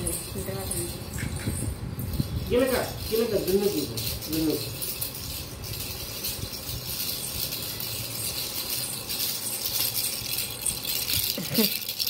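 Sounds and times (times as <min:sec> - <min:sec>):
plastic rattle toy shaken: 0:00.0 - 0:12.0.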